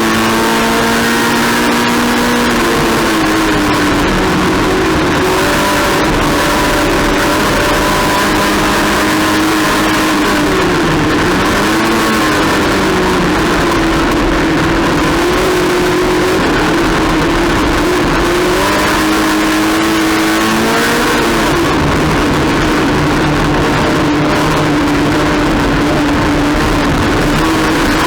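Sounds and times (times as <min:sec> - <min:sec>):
race car engine revving: 0:00.0 - 0:28.0
steady rushing noise: 0:00.0 - 0:28.0.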